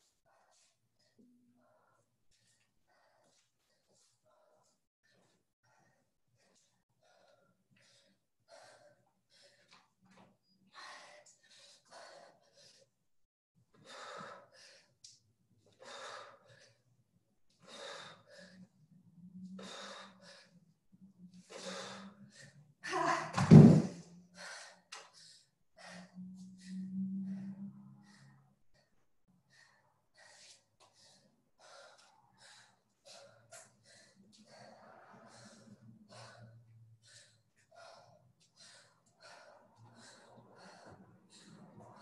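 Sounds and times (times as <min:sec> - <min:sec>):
person breathing hard: 0:00.1 - 0:13.0, 0:13.8 - 0:16.9, 0:17.5 - 0:20.8, 0:21.4 - 0:22.8, 0:24.2 - 0:42.0.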